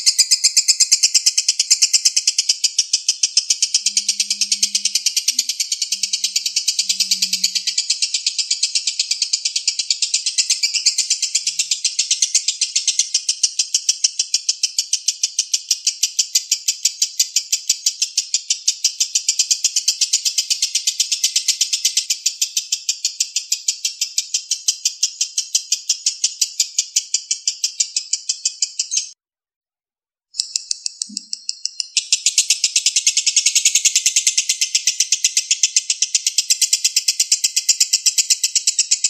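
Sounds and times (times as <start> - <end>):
lovebird chattering: 0.0 - 29.2, 30.4 - 39.0.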